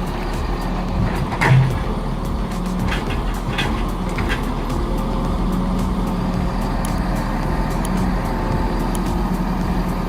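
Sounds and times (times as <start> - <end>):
heavy truck engine running: 0.0 - 10.0.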